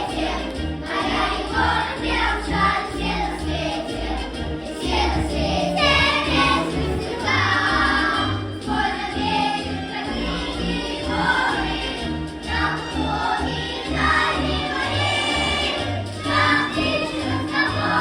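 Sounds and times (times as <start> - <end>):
children's choir singing: 0.0 - 18.0
instrumental accompaniment with bass: 0.0 - 18.0.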